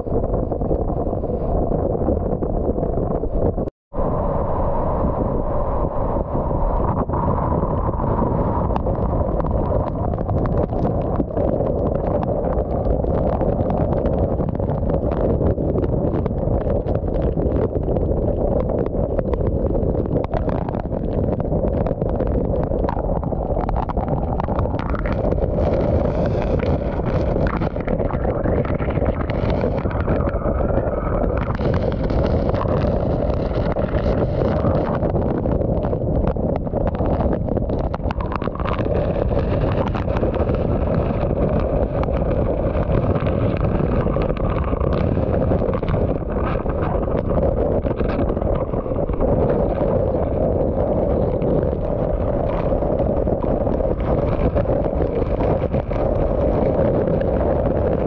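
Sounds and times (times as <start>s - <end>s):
strong wind buffeting vehicle: 0.0s - 58.0s.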